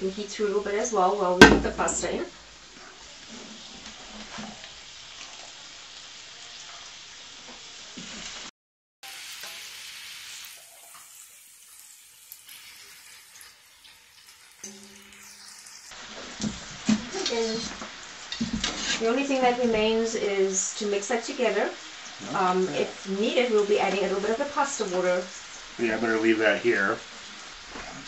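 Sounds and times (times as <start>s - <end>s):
dumplings sizzling in oil: 0.0s - 28.0s.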